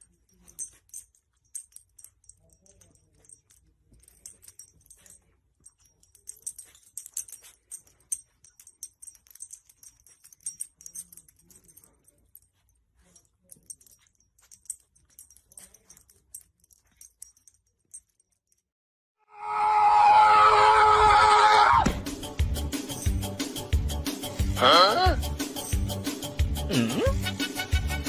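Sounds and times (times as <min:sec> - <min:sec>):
metal tags jingling: 0:00.0 - 0:18.6, 0:22.1 - 0:28.0.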